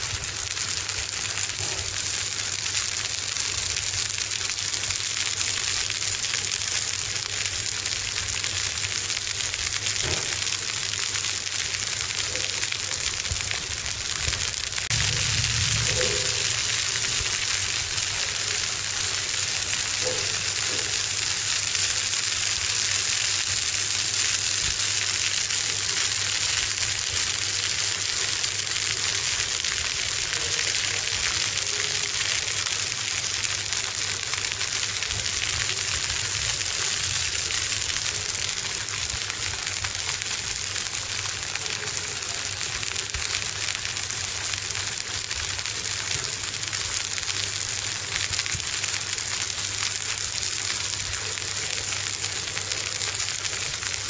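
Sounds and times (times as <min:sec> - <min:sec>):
fish sizzling on a grill: 0:00.0 - 0:54.0.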